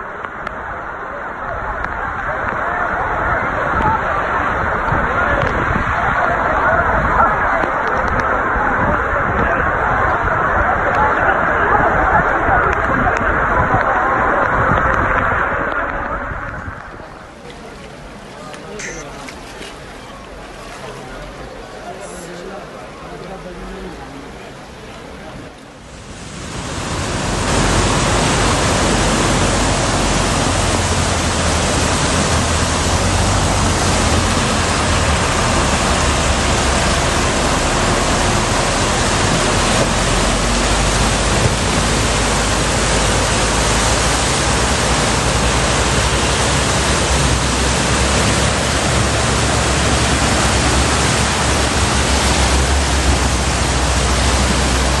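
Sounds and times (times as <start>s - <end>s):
floodwater rushing: 0.0s - 55.0s.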